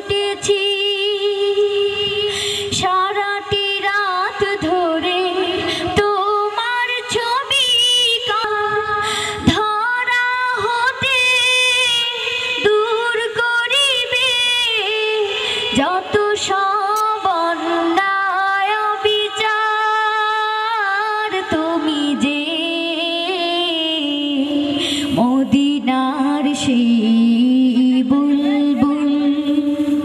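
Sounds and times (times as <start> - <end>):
boy singing into a microphone: 0.0 - 30.0.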